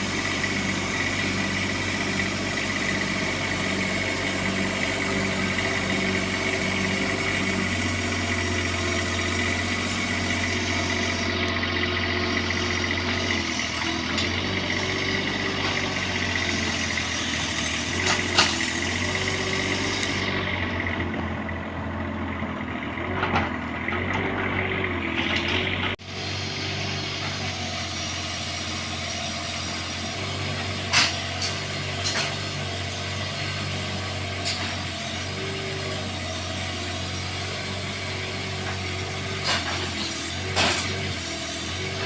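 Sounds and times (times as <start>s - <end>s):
mini excavator running: 0.0s - 42.0s.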